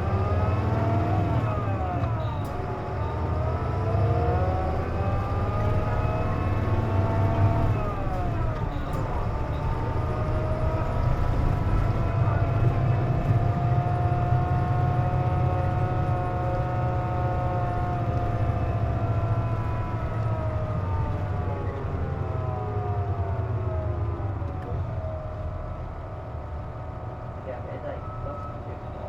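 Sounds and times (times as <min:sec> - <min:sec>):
bus diesel engine rumbling: 0:00.0 - 0:29.0.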